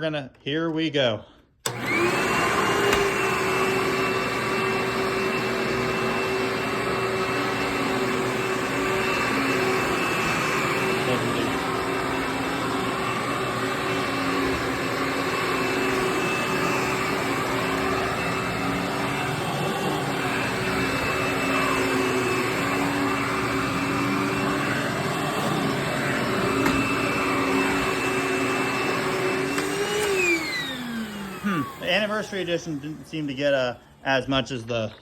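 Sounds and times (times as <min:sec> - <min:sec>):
vacuum cleaner motor whine: 0:01.6 - 0:35.0.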